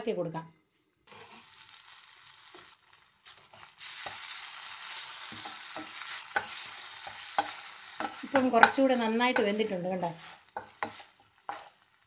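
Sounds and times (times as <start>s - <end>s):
masala sizzling in oil: 1.1s - 12.0s
spatula scraping a pan: 1.1s - 12.0s.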